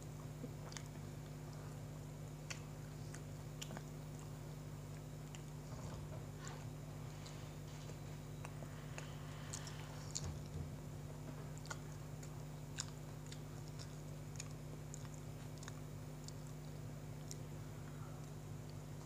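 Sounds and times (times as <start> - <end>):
steady low hum: 0.0 - 19.0
person chewing: 0.4 - 1.8, 2.4 - 19.0.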